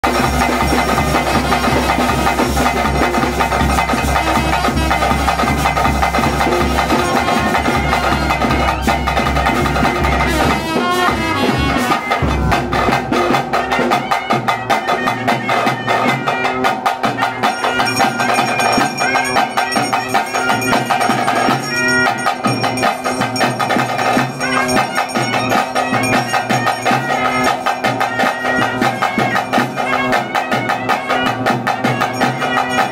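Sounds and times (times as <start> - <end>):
fast dense drumming: 0.0 - 32.9
wind instrument melody: 0.0 - 32.9.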